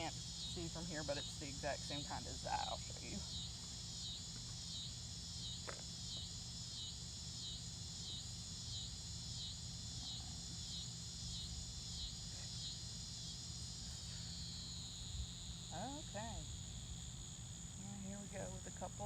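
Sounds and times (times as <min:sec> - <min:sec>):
insect high-pitched trill: 0:00.0 - 0:19.0
pulsing insect call: 0:00.0 - 0:19.0.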